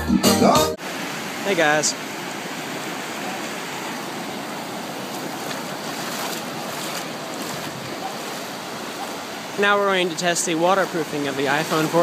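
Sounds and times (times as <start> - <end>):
ocean surf breaking on shore: 0.8 - 12.0.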